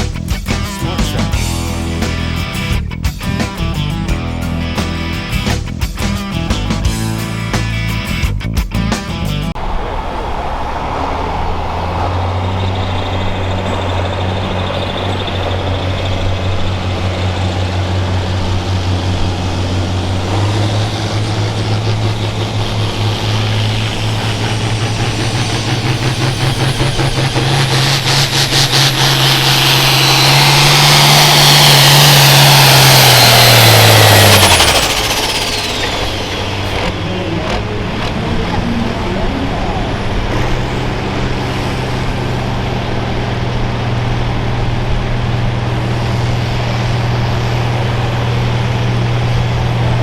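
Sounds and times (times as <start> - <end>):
tractor diesel engine: 0.0 - 50.0
turbo whine: 0.0 - 50.0.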